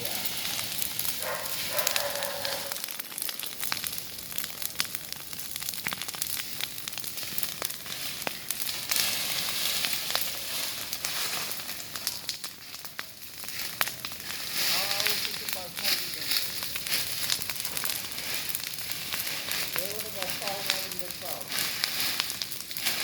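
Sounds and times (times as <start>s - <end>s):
fire crackling and popping: 0.0s - 23.0s
fire hissing: 0.0s - 23.0s.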